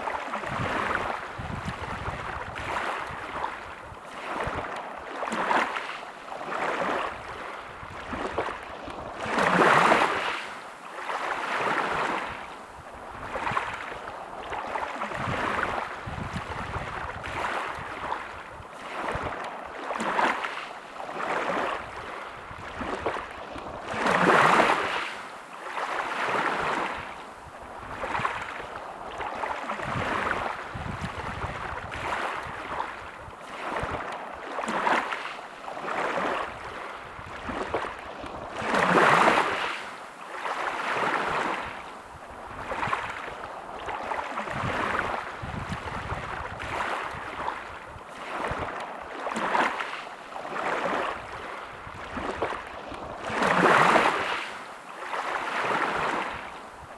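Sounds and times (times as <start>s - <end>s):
sea waves washing onto beach: 0.0s - 56.9s.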